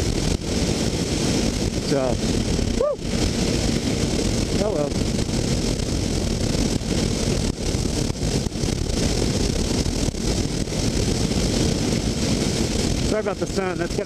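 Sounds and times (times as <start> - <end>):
wind buffeting microphone: 0.0 - 14.0
wind rushing: 0.0 - 14.0.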